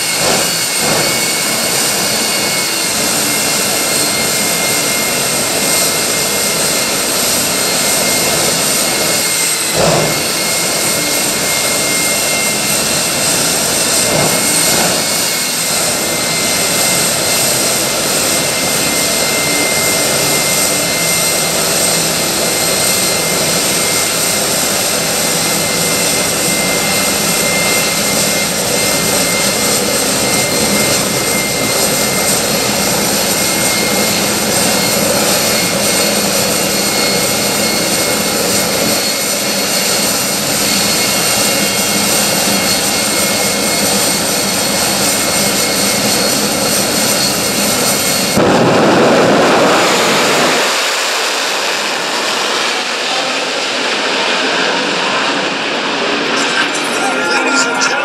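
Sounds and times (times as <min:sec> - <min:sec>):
jet engine bursts: 0:00.0 - 0:58.0
jet engine running with high whine: 0:00.0 - 0:58.0.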